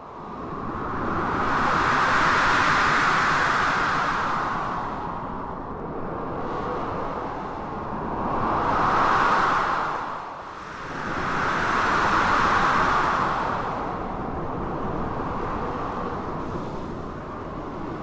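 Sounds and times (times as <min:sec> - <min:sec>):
blizzard wind: 0:00.0 - 0:18.0.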